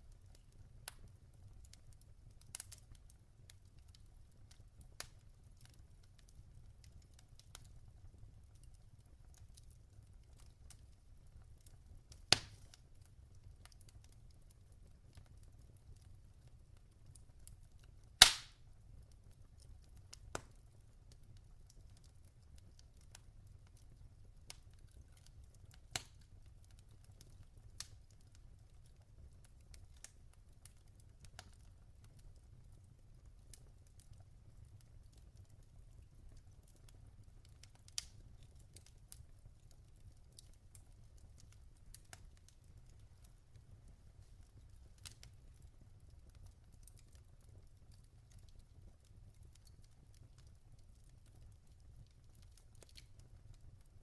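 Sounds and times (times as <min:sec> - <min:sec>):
logs crackling and popping: 0:00.1 - 0:54.0.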